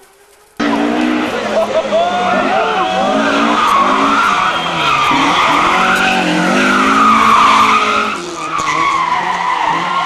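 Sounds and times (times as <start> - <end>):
racing car engine revving: 0.6 - 10.0.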